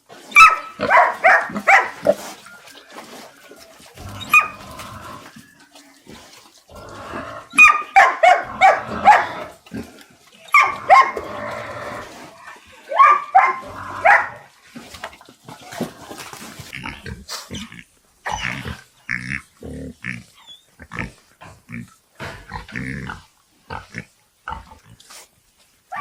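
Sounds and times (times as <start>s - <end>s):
pigs squealing and grunting: 0.1s - 25.1s.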